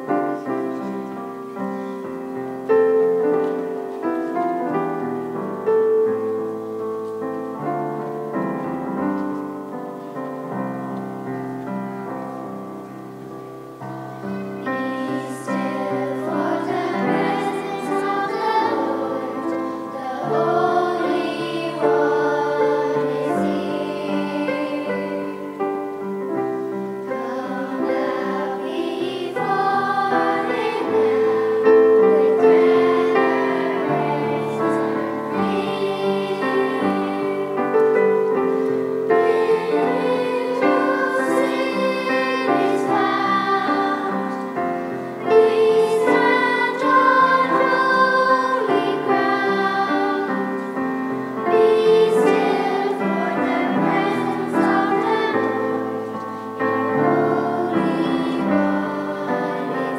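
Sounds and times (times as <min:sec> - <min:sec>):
choir singing a hymn: 0:00.0 - 0:59.9
keyboard accompaniment: 0:00.0 - 0:59.9.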